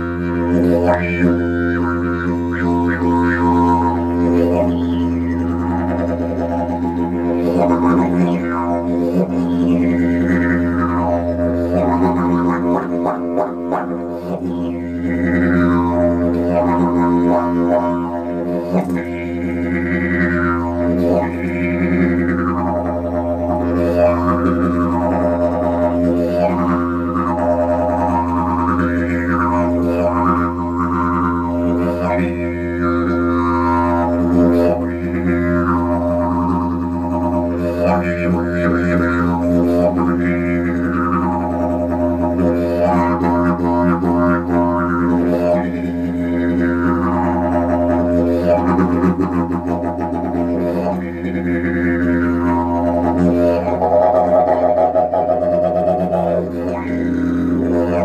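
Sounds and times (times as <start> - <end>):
didgeridoo drone: 0.0 - 58.0.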